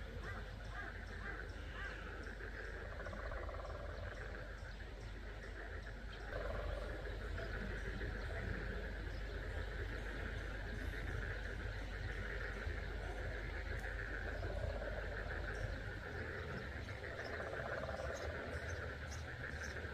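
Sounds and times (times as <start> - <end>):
frogs croaking chorus: 0.0 - 19.9.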